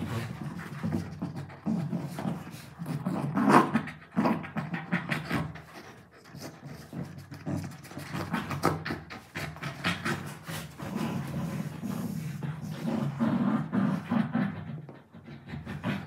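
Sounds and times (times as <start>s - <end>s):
dogs panting: 0.0s - 16.0s.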